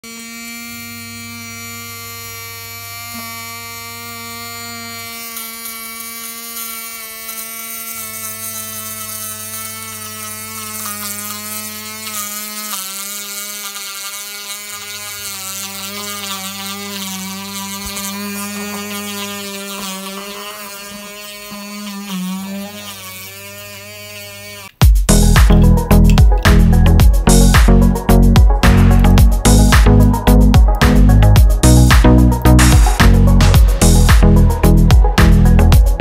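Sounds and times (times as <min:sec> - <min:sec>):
small electric motor buzzing: 0:00.0 - 0:36.0.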